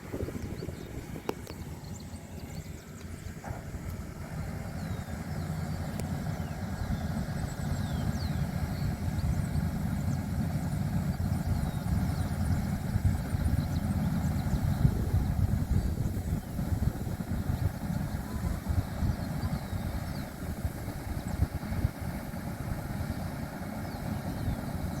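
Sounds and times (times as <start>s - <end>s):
combine harvester engine rumbling: 0.0s - 25.0s.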